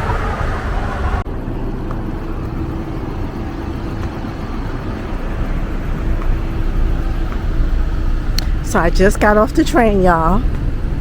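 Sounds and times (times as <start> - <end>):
mid-pitched hum: 0.0 - 11.0
moving vehicle rumble: 0.0 - 11.0.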